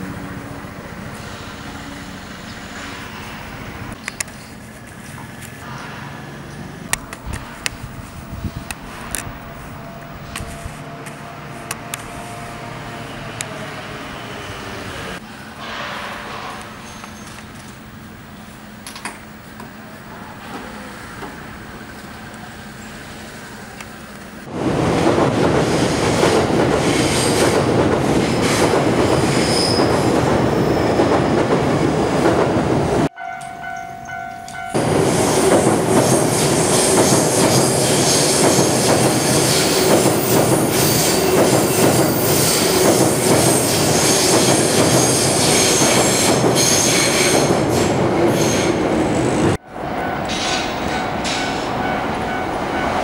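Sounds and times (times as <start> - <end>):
train running over steel bridge: 0.0 - 53.0.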